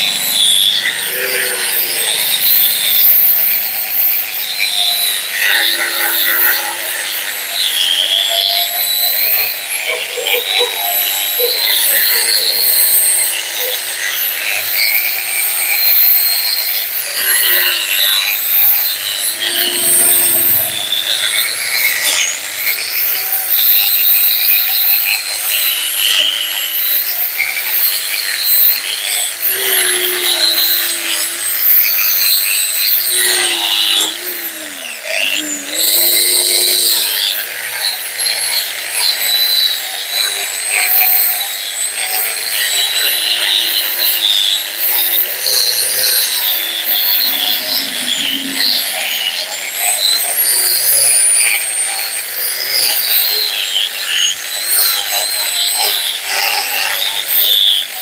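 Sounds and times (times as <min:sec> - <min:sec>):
angle grinder grinding metal: 0:00.0 - 0:58.0.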